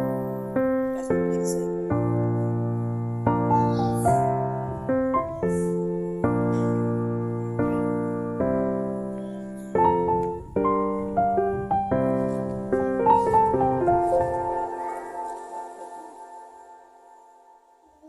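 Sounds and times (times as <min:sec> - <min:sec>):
piano chords with melody: 0:00.0 - 0:17.9.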